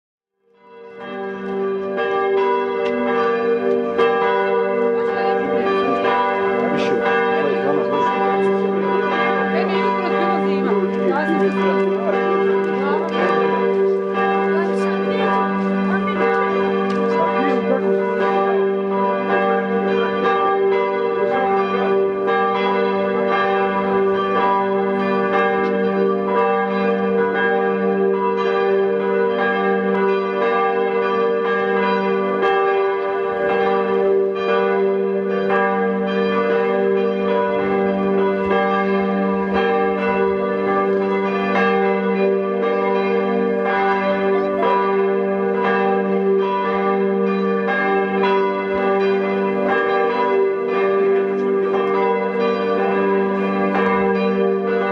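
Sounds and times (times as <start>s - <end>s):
church bells pealing: 0.5s - 54.9s.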